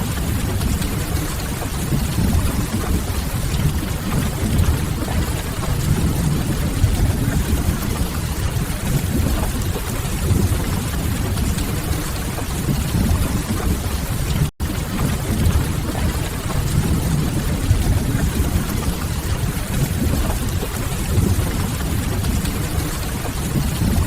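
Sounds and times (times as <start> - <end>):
deep continuous rumble: 0.0 - 24.0
rushing hiss of rain: 0.0 - 24.0.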